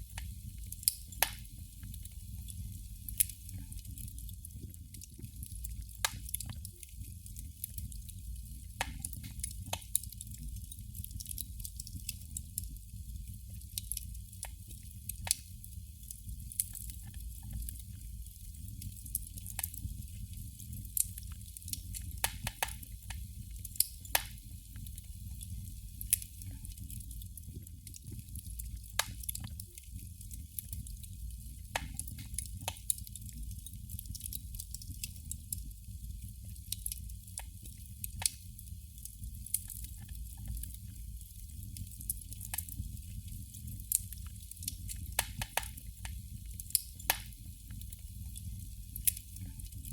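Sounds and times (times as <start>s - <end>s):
candle flame crackling: 0.0s - 49.9s.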